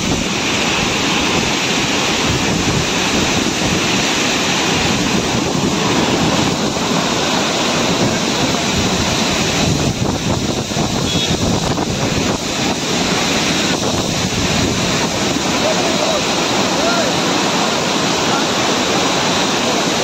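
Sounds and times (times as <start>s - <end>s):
waterfall rushing: 0.0s - 20.0s
wind buffeting the microphone: 0.0s - 20.0s.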